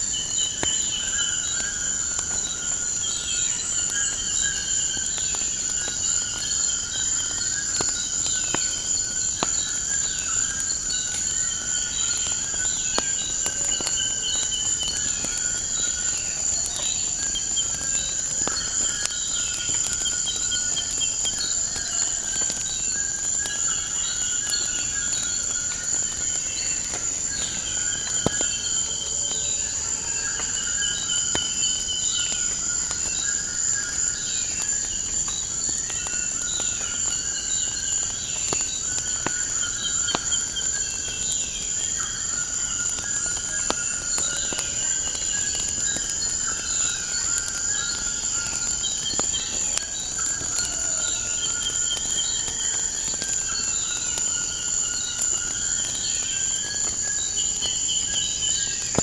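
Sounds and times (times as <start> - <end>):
crickets chirping: 0.0 - 59.0
wood fire crackling: 0.0 - 59.0.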